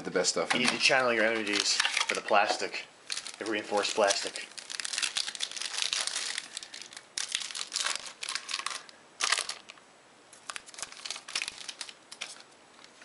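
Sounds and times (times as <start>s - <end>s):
foil wrapper crinkling and tearing: 0.5s - 13.0s.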